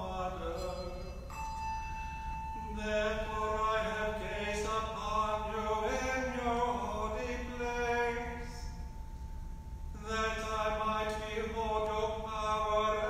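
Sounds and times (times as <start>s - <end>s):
liturgical chant singing: 0.0s - 1.4s, 2.6s - 8.8s, 10.0s - 13.0s.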